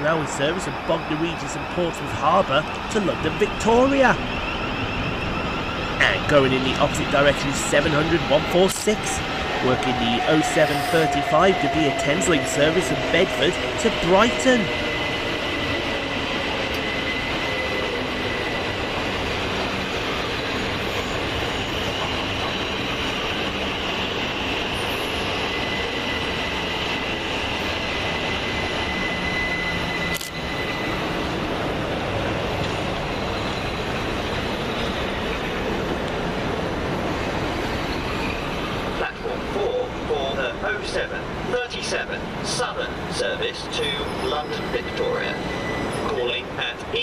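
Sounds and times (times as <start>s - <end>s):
train wheels and motors rumbling: 0.0s - 47.0s.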